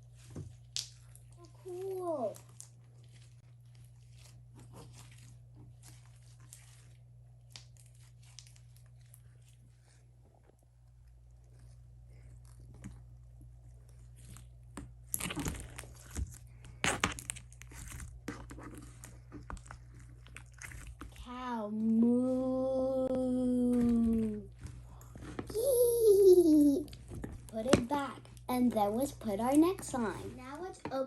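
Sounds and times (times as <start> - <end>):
slime squeezed with sticky crackles: 0.0 - 10.0, 10.9 - 30.8.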